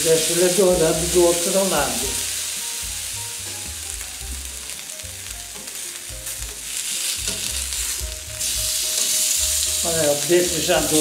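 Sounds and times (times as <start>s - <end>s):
steak sizzling in a frying pan: 0.0s - 11.0s.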